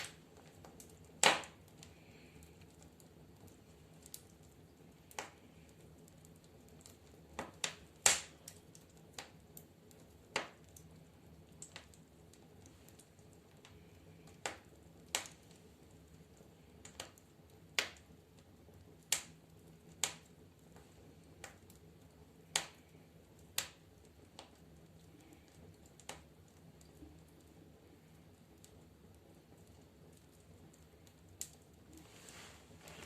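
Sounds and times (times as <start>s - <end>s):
firewood crackling in stove: 0.0s - 33.0s.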